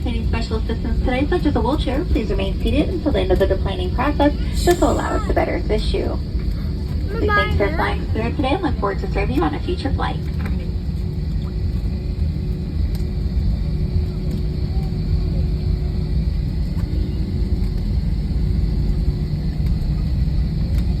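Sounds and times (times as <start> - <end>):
faint steady hum: 0.0 - 21.0
low rumble of airliner engines: 0.0 - 21.0.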